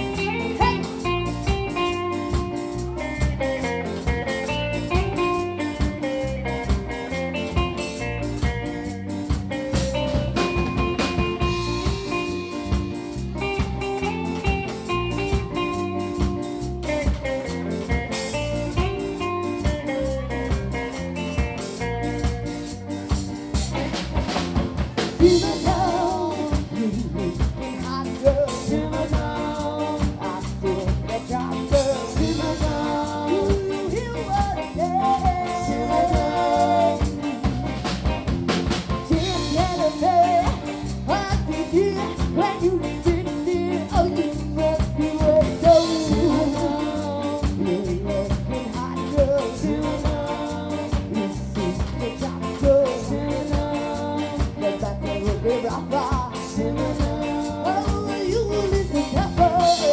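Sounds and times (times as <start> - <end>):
drum kit beat: 0.0 - 59.9
ska band playing upbeat song: 0.0 - 59.9.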